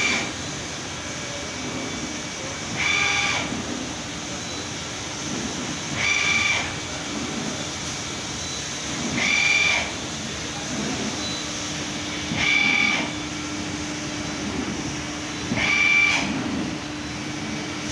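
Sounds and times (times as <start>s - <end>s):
printing machine humming: 0.0s - 17.9s.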